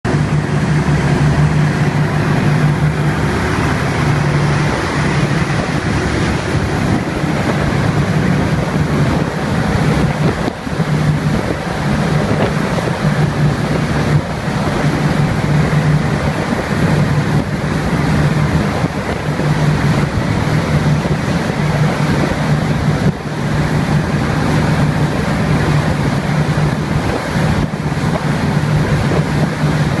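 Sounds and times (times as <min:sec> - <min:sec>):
boat engine drone: 0:00.0 - 0:30.0
loud water rushing: 0:00.0 - 0:30.0.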